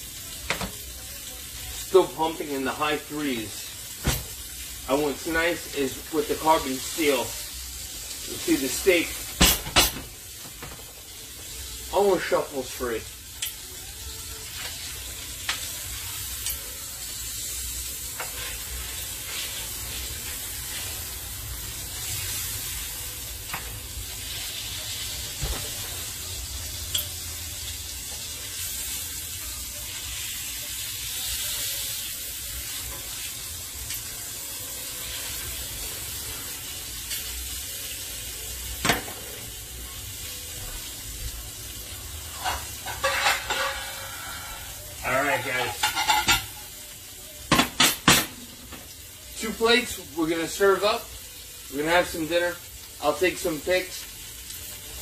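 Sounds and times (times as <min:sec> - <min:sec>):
steaks sizzling in pan: 0:00.0 - 0:55.0.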